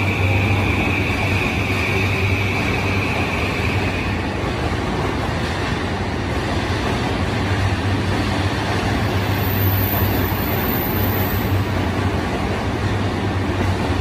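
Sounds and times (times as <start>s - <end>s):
electric train rumbling past: 0.0s - 14.0s.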